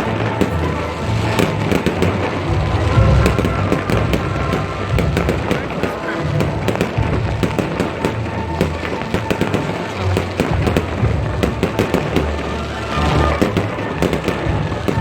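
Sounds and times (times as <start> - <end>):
fireworks and firecrackers banging: 0.0 - 15.0
music playing: 0.0 - 15.0.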